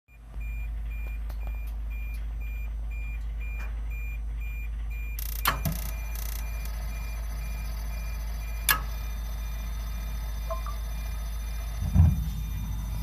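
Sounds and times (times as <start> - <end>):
boiler beeping: 0.1 - 13.0
low hum: 1.8 - 13.0.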